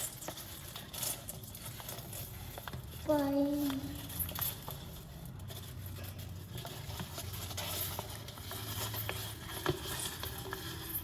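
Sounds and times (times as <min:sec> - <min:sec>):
light taps and scratches: 0:00.0 - 0:11.0.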